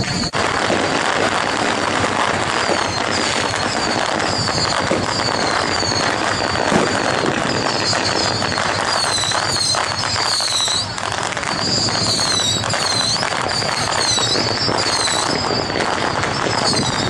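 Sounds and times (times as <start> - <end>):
swooping whistle tone: 0.0 - 0.6, 2.4 - 17.0
firecrackers crackling: 0.0 - 17.0.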